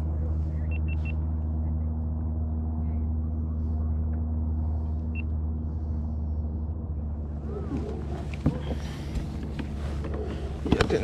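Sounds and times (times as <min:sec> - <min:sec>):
engine droning low: 0:00.0 - 0:11.0.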